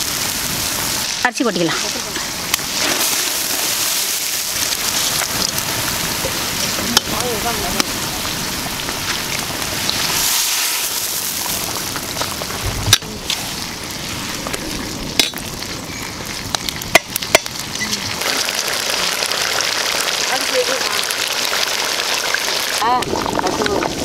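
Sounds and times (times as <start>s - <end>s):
water boiling hard in a pot: 0.0s - 24.0s.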